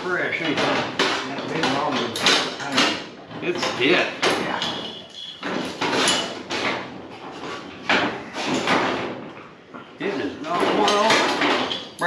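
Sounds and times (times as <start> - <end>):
metal scraping and clunking: 0.0 - 12.0.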